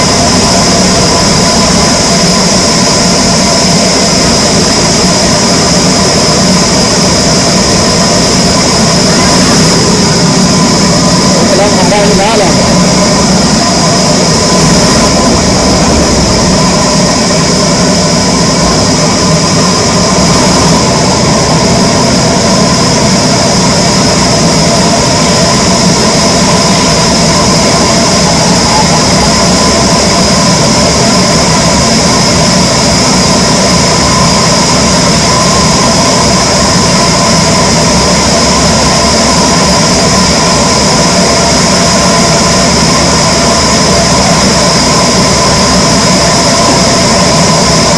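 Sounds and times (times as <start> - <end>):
saw machinery whining: 0.0 - 47.9.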